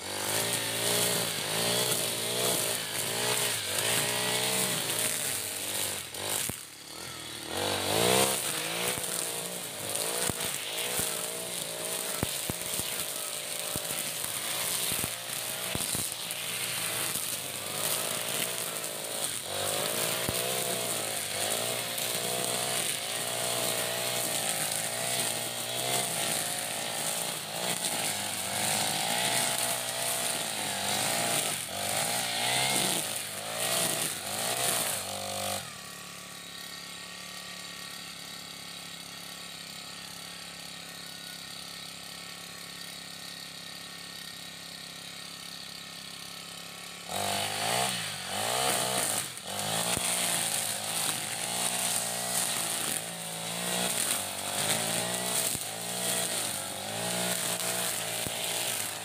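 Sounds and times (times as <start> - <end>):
brush cutter engine cutting grass: 0.0 - 59.0.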